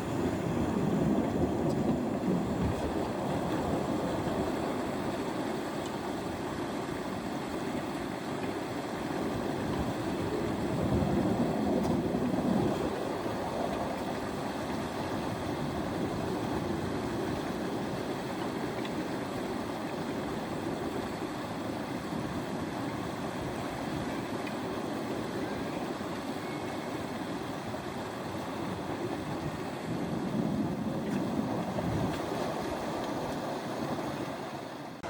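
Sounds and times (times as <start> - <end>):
water rushing around a raft: 0.0 - 35.0.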